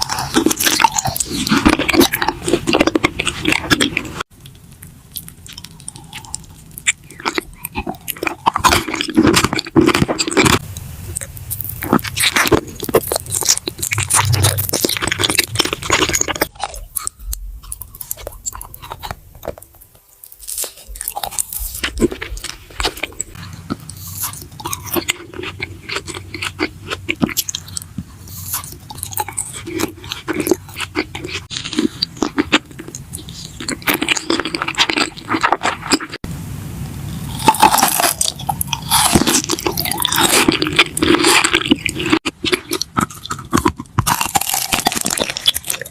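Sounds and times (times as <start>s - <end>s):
crunchy chewing: 0.0s - 36.2s, 37.3s - 45.9s.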